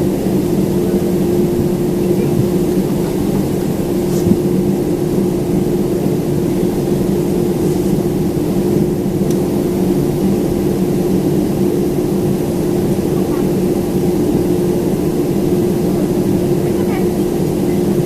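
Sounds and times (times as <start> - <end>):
airplane cabin hum: 0.0 - 18.0.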